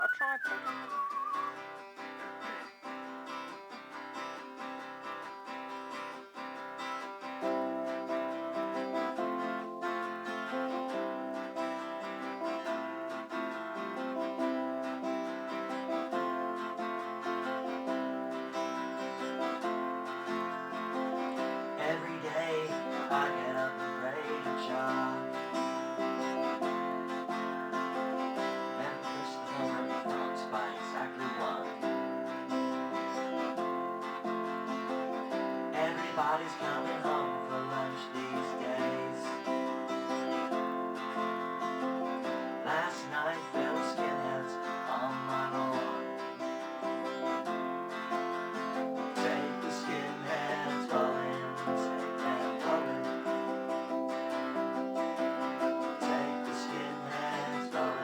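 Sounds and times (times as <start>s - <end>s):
guitars strumming: 0.4s - 58.0s.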